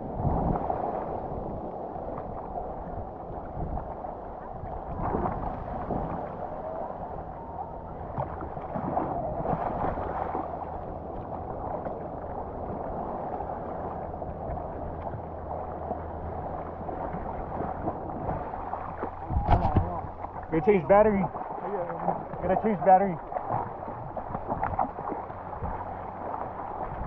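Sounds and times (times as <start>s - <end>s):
muffled sloshing water: 0.0s - 27.0s.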